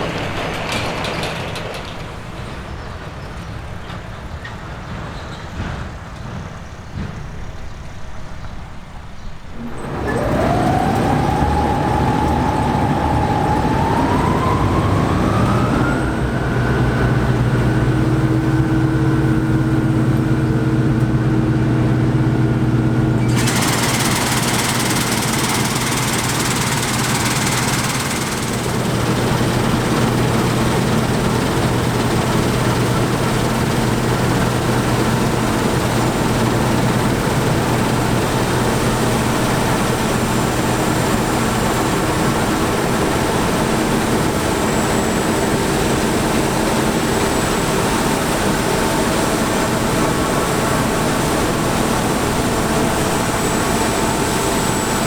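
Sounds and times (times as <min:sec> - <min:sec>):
diesel machinery engine drone: 0:09.6 - 0:55.0.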